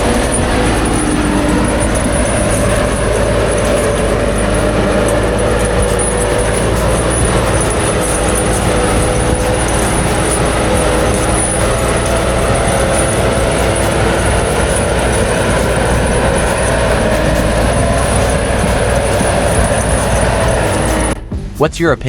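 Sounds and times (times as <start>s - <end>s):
log-processing machine running: 0.0s - 21.7s.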